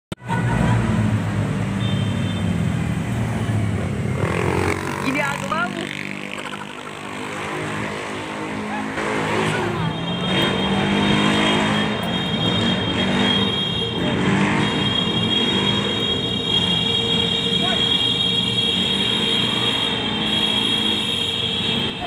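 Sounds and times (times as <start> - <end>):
motorcycle engines running: 2.6 - 22.0.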